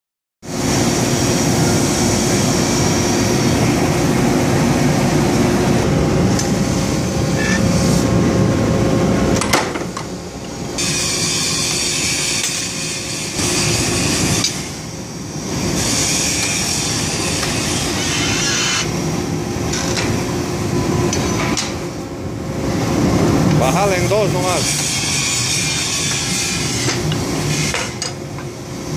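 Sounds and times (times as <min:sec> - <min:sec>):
forging machinery humming and hissing: 0:00.5 - 0:28.9.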